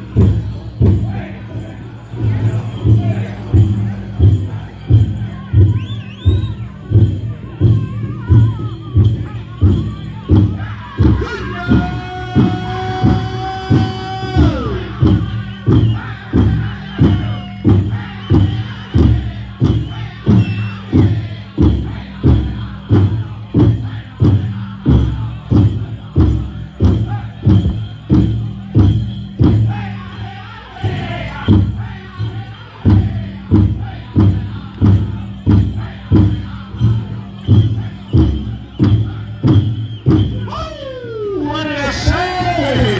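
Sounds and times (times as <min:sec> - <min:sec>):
big drum steady beat: 0:00.0 - 0:42.9
high-pitched group singing: 0:00.0 - 0:42.9
leg bells jingling: 0:00.0 - 0:42.9.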